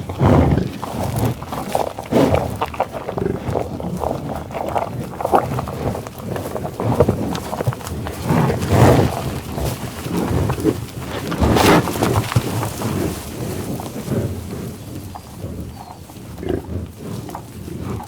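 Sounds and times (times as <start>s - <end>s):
buffalo growling: 0.0s - 18.0s.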